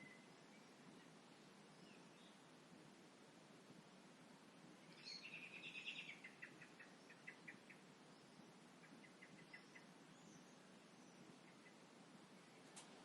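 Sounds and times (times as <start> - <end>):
songbird singing faintly: 0.0 - 13.0.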